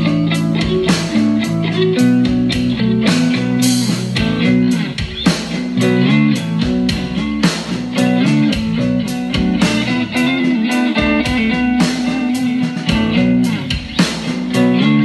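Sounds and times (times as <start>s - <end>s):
guitar band music: 0.0s - 15.0s.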